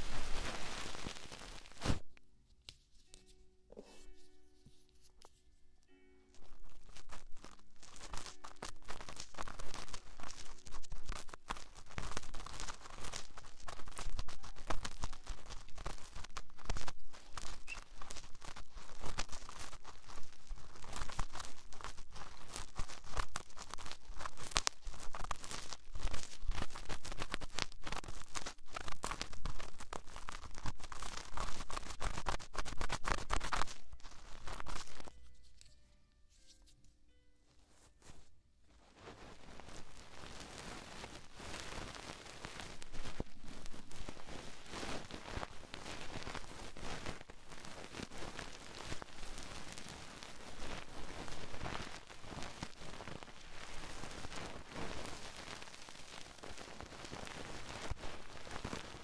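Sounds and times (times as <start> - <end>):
scratching and tapping on microphone: 0.0 - 5.4, 6.4 - 35.8, 38.0 - 59.0.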